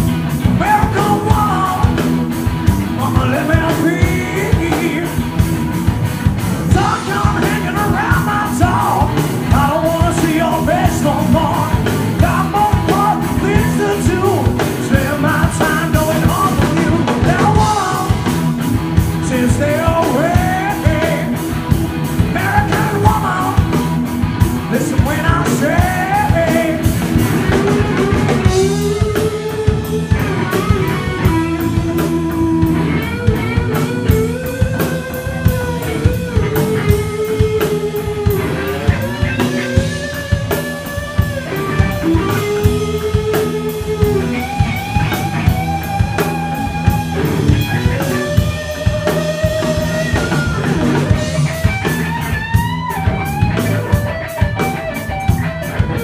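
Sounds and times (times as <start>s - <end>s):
drums beating: 0.0s - 56.0s
guitar lead melody: 0.0s - 56.0s
live rock band playing: 0.0s - 56.0s.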